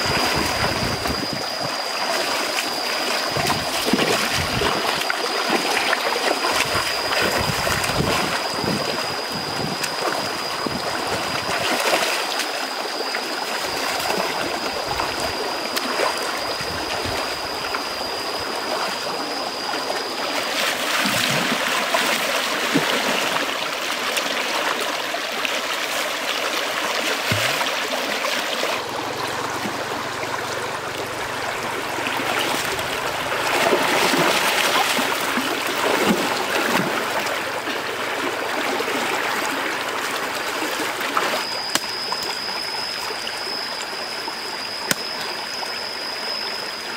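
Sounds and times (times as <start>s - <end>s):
water splashing around wader: 0.0s - 46.8s
stream rushing over stones: 0.0s - 46.9s.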